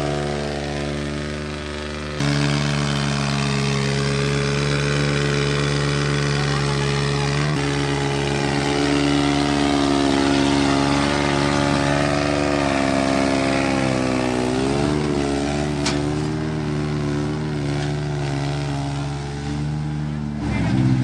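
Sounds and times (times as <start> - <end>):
tractor diesel engines under load: 0.0 - 21.0.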